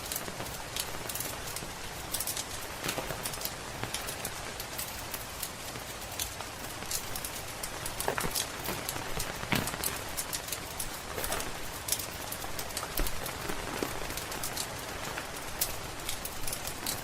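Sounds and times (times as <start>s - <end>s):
steady rain hiss: 0.0s - 17.0s
wood fire crackling and popping: 0.0s - 17.0s.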